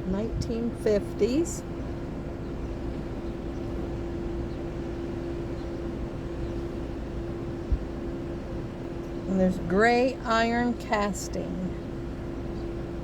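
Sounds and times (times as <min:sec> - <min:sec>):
mechanical hum and rumble: 0:00.0 - 0:13.0.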